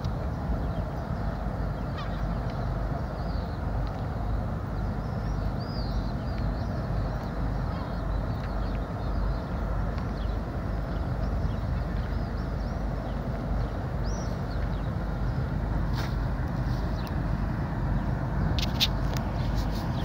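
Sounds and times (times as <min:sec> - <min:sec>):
ferry engines rumbling: 0:00.0 - 0:20.0
small birds chirping: 0:00.3 - 0:20.0.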